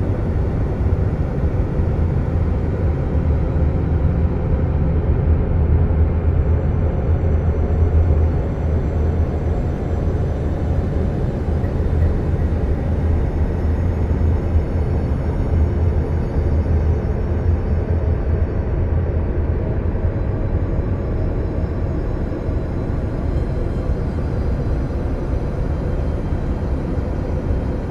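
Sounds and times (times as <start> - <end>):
low rumbling ambient drone: 0.0 - 27.9.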